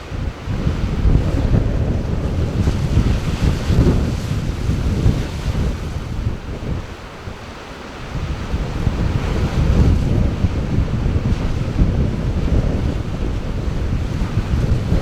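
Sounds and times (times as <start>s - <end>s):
ocean waves: 0.0s - 15.0s
wind buffeting microphone: 0.0s - 15.0s.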